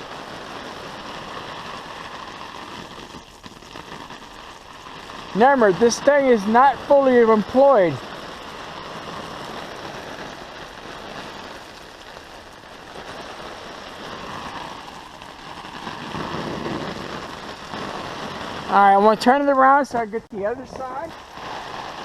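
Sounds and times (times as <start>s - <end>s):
water spray pattering on tent: 0.0s - 22.0s.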